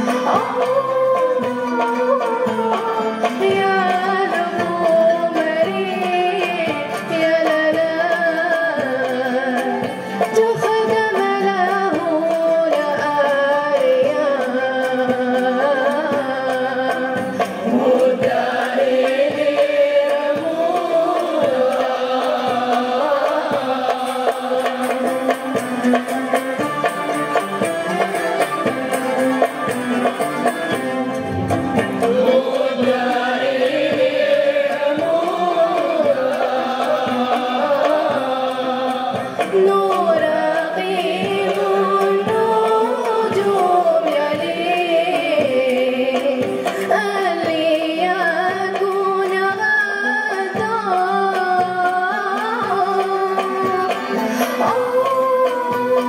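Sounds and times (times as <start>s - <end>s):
woman singing: 0.0s - 29.5s, 31.8s - 56.0s
hand drum beat: 0.0s - 56.0s
string ensemble playing: 0.0s - 56.0s.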